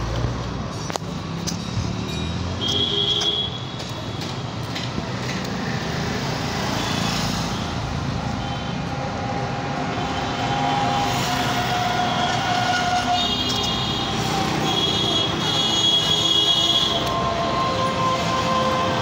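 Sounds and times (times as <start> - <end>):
traffic passing: 0.0 - 19.0.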